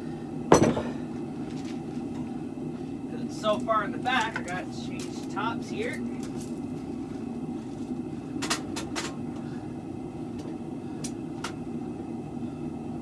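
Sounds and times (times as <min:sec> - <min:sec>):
forge running: 0:00.0 - 0:13.0.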